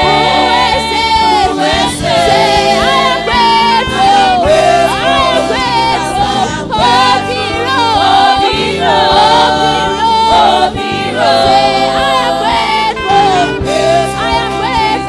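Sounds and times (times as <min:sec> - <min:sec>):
band with steady drum beat: 0:00.0 - 0:15.0
choir singing: 0:00.0 - 0:15.0
woman singing lead: 0:00.0 - 0:15.0.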